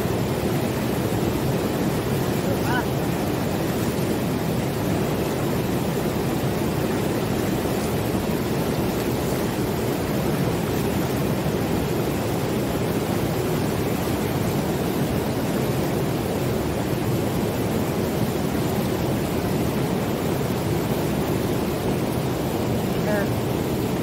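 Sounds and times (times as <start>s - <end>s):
river water rushing over rapids: 0.0s - 24.0s.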